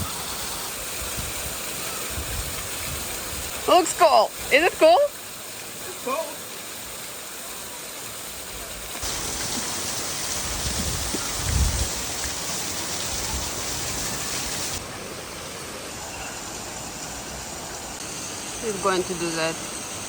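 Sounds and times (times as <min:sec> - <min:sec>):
rushing stream water: 0:00.0 - 0:20.0.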